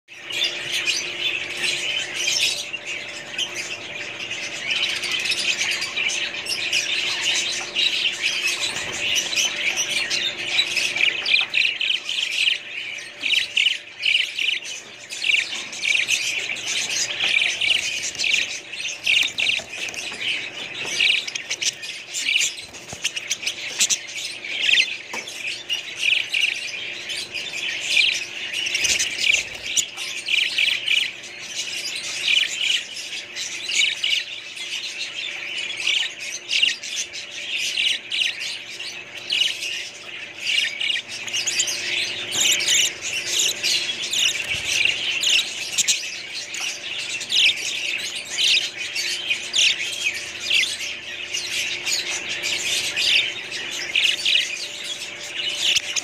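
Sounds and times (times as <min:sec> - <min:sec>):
budgerigars chirping and squawking: 0:00.1 - 0:56.0.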